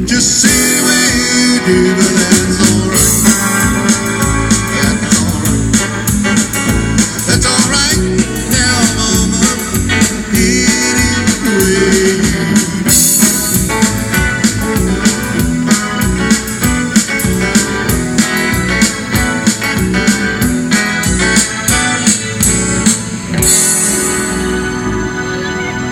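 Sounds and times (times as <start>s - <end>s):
blues-rock band playing: 0.0s - 25.9s.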